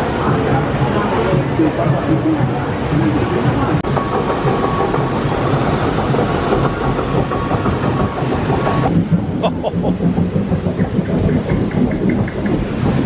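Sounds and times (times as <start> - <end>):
roller coaster rumbling on track: 0.0 - 13.0.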